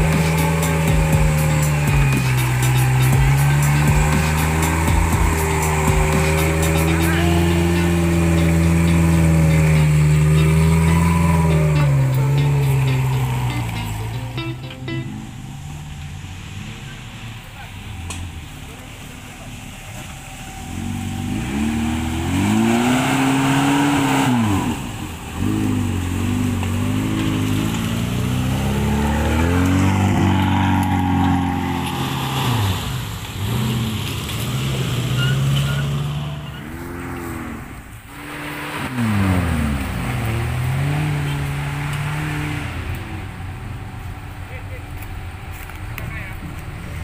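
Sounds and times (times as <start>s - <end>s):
engine revving hard: 0.0s - 43.8s.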